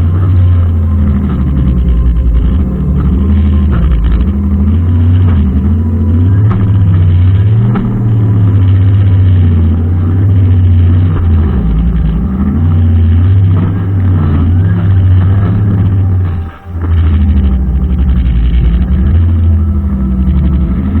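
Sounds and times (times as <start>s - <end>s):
brushcutter engine running: 0.0s - 21.0s.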